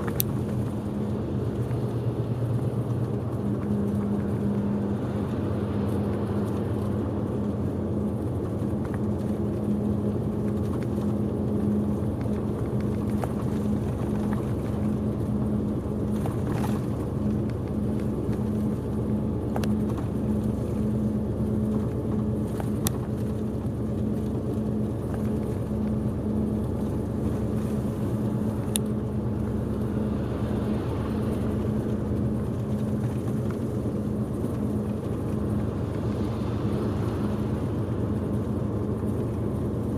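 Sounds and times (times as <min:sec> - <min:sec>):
coach engine and road noise: 0:00.0 - 0:39.9.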